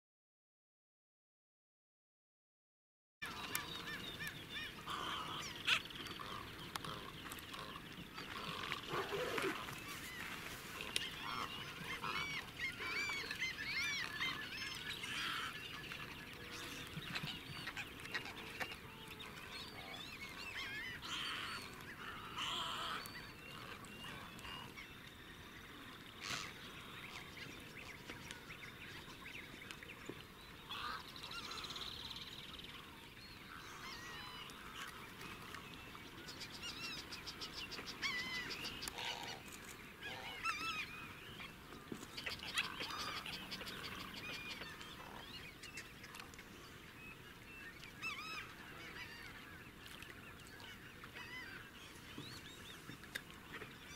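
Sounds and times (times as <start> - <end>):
wetland birds calling: 3.2 - 53.9.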